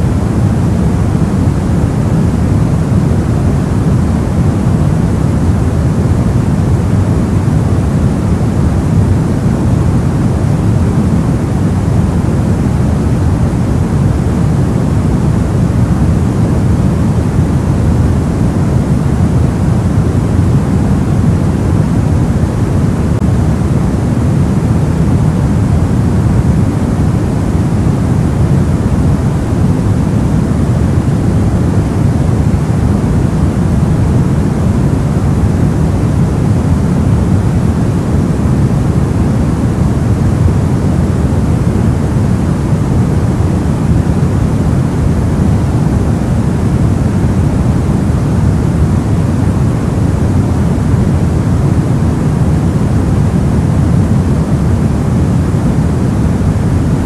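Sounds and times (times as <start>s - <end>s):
deep muffled white noise: 0.0s - 57.0s.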